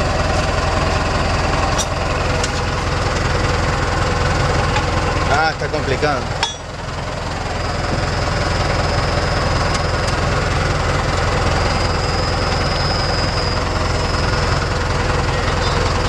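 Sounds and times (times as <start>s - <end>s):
tractor engine chugging: 0.0s - 16.0s.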